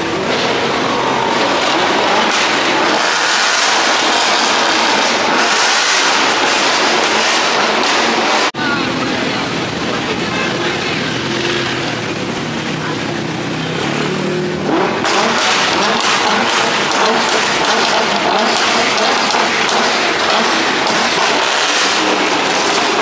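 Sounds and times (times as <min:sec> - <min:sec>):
car engine revving: 0:00.0 - 0:23.0
car exhaust rumbling: 0:00.0 - 0:23.0
exhaust crackles: 0:00.0 - 0:23.0.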